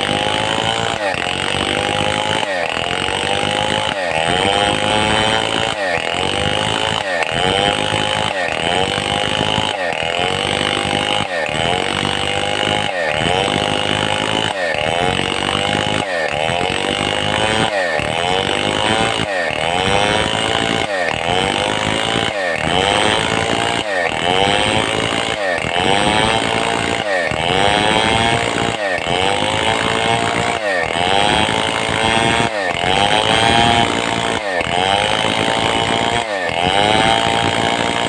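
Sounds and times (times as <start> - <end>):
chainsaw ripping a log: 0.0 - 38.0.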